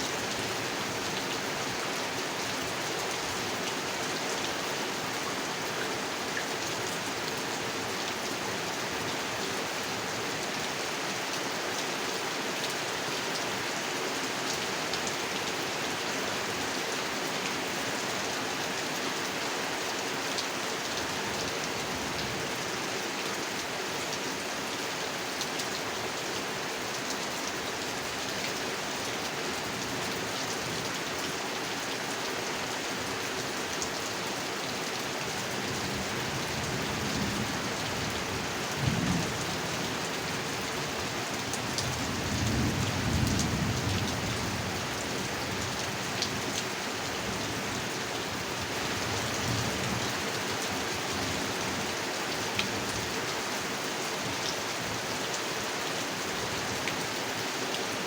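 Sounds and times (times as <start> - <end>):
rain falling on a pond: 0.0 - 58.0.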